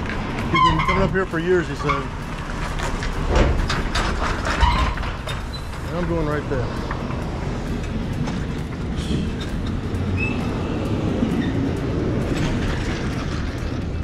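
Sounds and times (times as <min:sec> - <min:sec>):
clanks and rattles: 0:00.0 - 0:14.0
diesel truck engine rumbling: 0:00.0 - 0:14.0.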